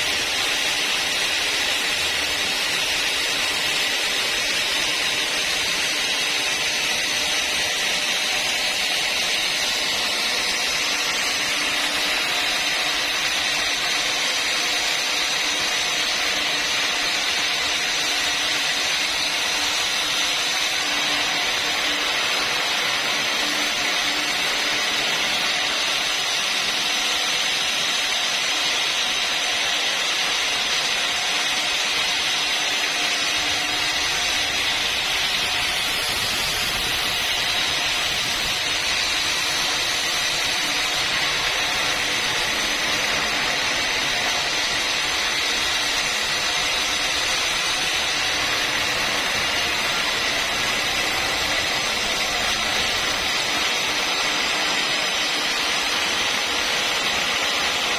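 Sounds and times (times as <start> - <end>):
sawmill saw whining: 0.0 - 57.9.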